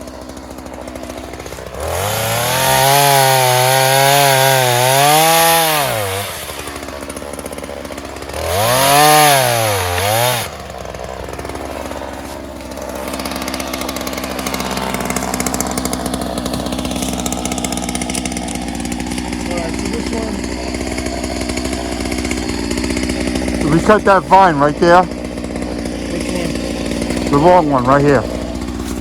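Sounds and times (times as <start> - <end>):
chainsaw revving and idling: 0.0 - 29.0.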